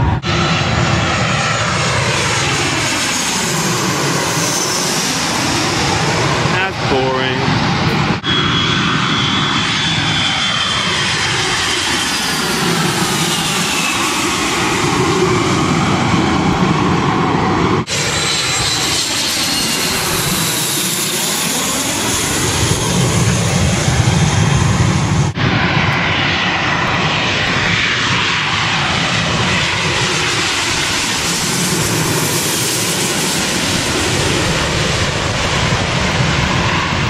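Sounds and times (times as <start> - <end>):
jet aircraft passing overhead: 0.0 - 37.0.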